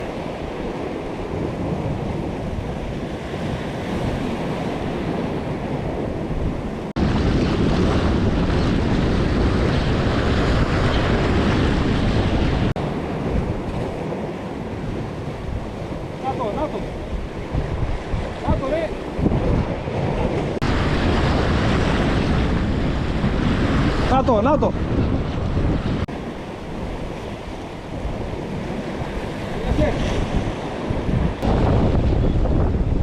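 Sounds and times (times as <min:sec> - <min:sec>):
sea noise: 0:00.0 - 0:33.0
wind buffeting microphone: 0:00.0 - 0:33.0.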